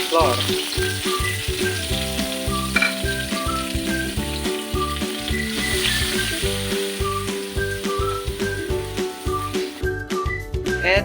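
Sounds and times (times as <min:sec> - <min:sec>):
butter and flour sizzling in pan: 0:00.0 - 0:09.9
background music with steady beat: 0:00.1 - 0:11.0.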